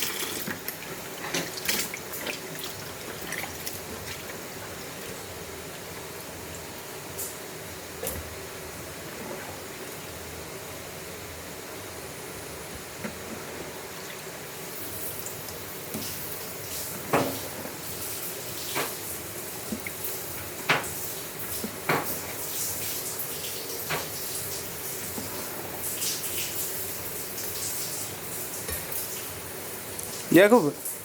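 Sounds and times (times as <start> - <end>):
water running and splashing: 0.0 - 7.4, 12.4 - 31.0.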